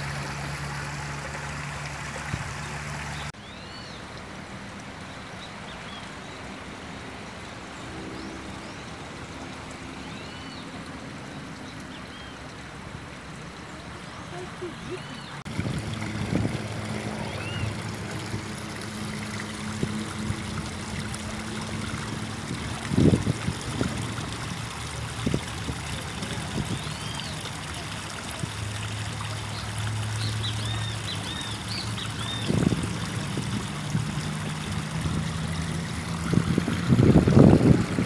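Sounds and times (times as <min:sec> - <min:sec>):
water trickling over rocks: 0:00.0 - 0:38.0.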